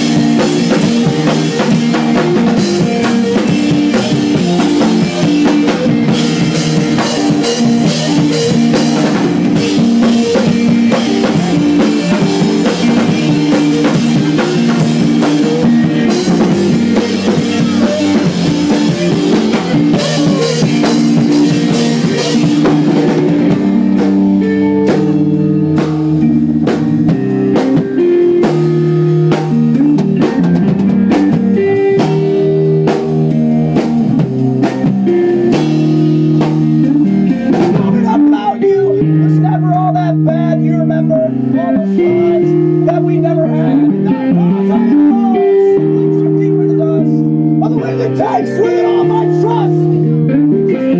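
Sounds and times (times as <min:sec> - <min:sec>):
drum kit: 0:00.0 - 0:50.9
electric guitars: 0:00.0 - 0:50.9.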